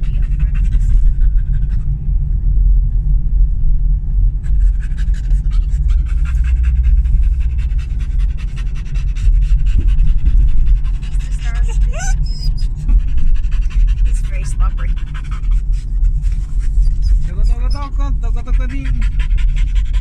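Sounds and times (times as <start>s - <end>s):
dog panting: 0.0s - 2.1s, 4.3s - 20.0s
car rumbling on road: 0.0s - 20.0s.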